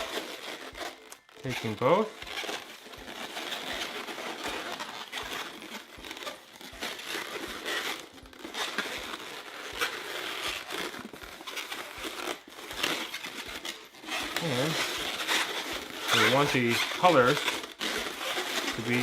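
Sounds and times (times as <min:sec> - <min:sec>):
balloons rubbing and clicking: 0:00.0 - 0:19.0.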